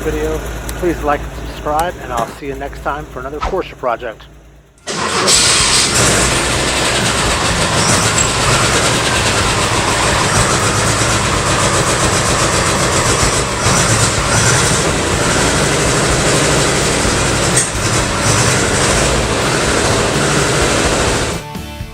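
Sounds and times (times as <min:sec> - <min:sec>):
clattering car engine running: 0:00.0 - 0:21.4.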